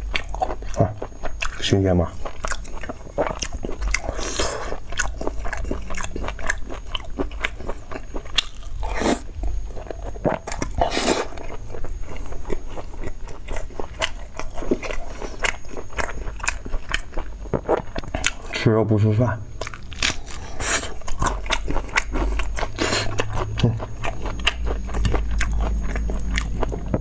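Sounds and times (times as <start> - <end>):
wet chewing clicks and smacks: 0.0 - 18.6, 19.6 - 27.0.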